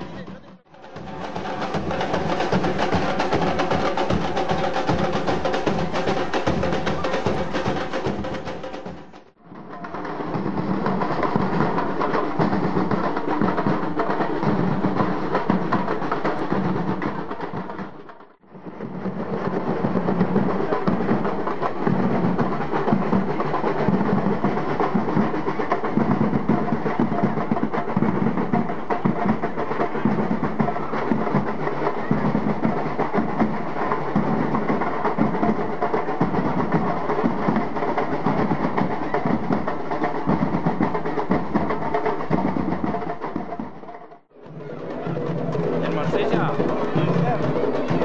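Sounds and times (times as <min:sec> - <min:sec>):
drum troupe playing: 0:00.0 - 0:48.0.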